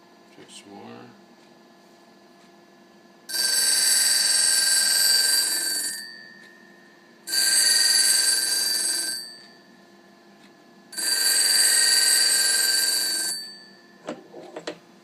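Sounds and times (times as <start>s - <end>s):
faint motor hum: 0.0s - 15.0s.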